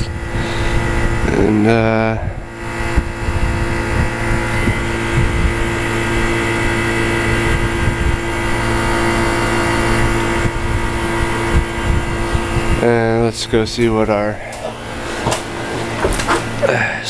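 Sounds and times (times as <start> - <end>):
heat pump compressor hum: 0.0 - 17.0.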